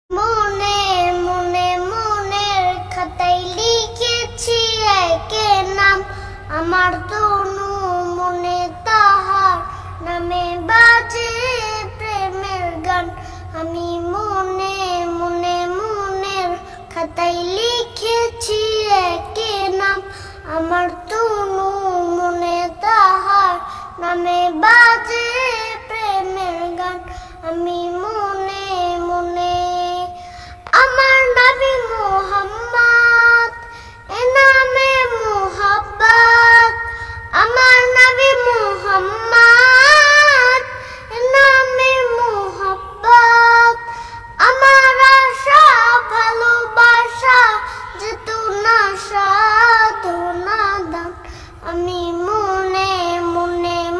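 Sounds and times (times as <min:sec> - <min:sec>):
boy singing: 0:00.1 - 0:53.9.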